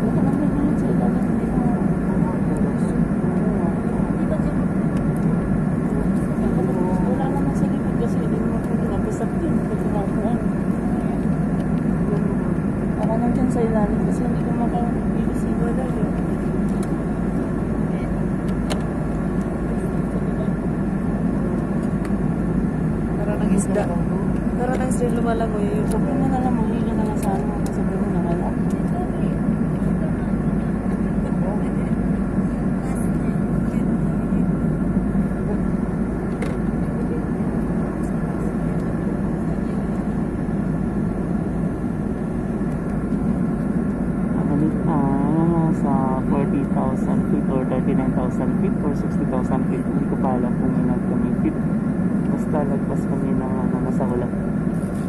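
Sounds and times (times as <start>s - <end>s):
airliner cabin roar: 0.0s - 55.0s
jet engine and airflow rush: 0.0s - 55.0s.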